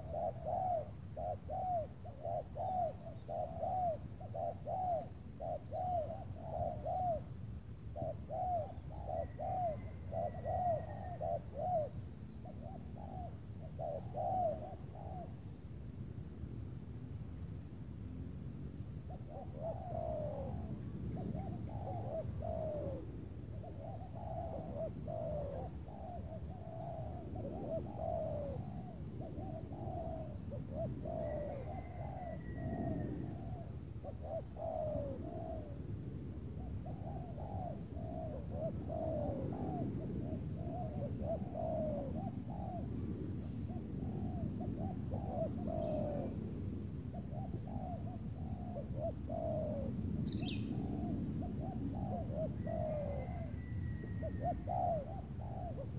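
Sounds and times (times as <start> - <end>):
doves cooing: 0.0 - 15.6, 19.1 - 55.9.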